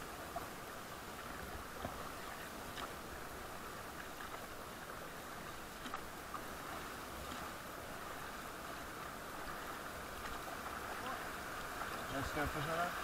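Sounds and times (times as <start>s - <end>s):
raft paddles splashing: 0.0s - 13.0s
river water rushing: 0.0s - 13.0s.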